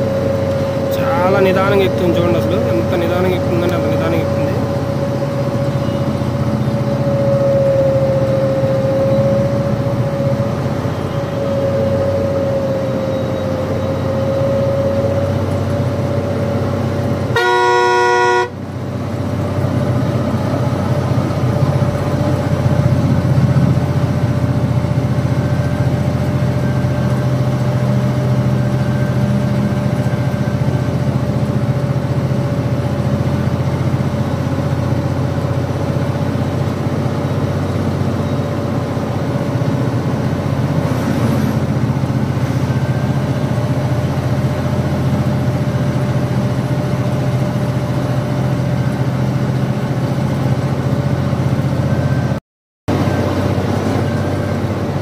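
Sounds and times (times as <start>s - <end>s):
diesel truck engine straining uphill: 0.0s - 55.0s.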